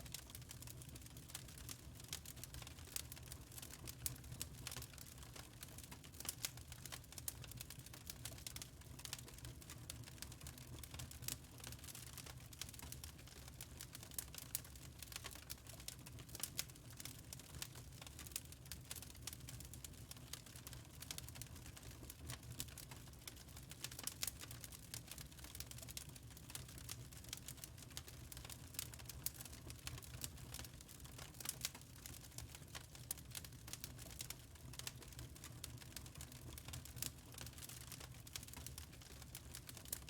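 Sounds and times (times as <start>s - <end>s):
fire crackling in fireplace: 0.0s - 40.0s.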